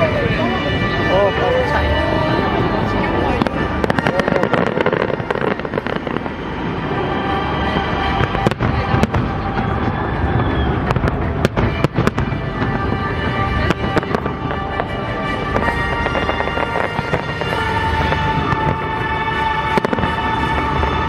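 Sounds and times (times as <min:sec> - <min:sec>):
fireworks bangs and crackles: 0:00.0 - 0:21.0
music playing: 0:00.0 - 0:21.0
low rumble: 0:01.8 - 0:21.0.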